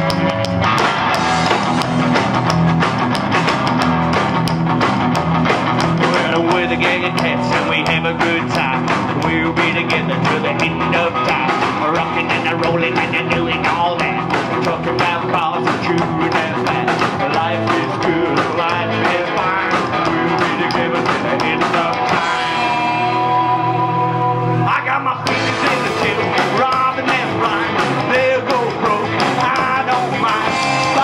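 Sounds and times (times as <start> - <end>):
rockabilly band playing live: 0.0 - 31.0.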